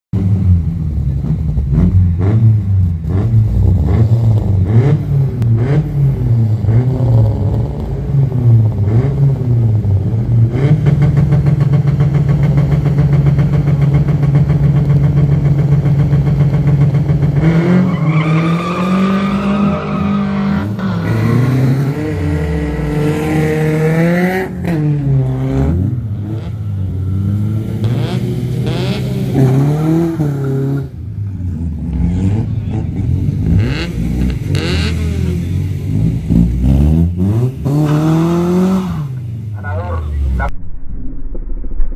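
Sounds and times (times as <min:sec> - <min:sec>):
car engine revving: 0:00.2 - 0:40.6.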